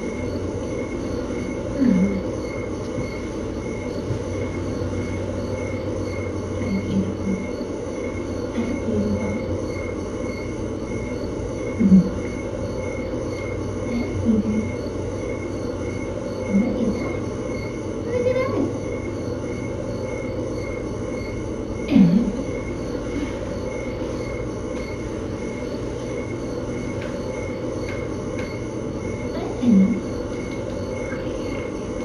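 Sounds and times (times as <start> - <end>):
mechanical room hum and hiss: 0.0 - 32.0.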